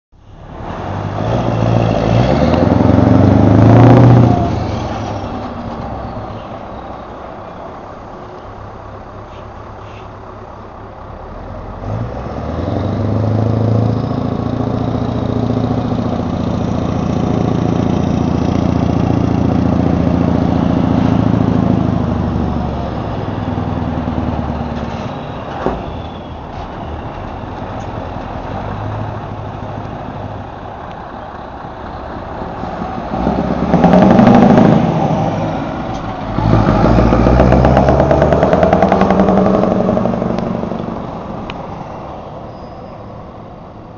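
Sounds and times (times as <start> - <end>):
truck diesel engine revving: 0.3 - 42.5.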